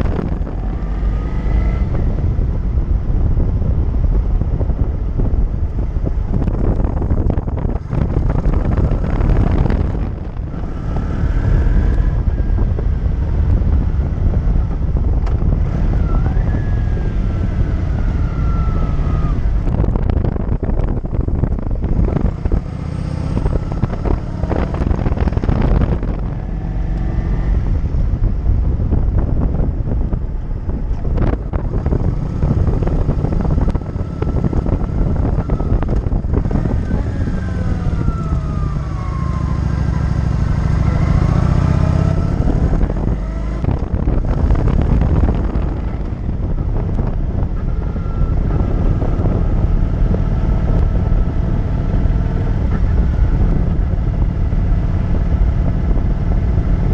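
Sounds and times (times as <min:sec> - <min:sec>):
motorcycle engine running: 0:00.0 - 0:56.9
wind noise on microphone: 0:00.0 - 0:56.9.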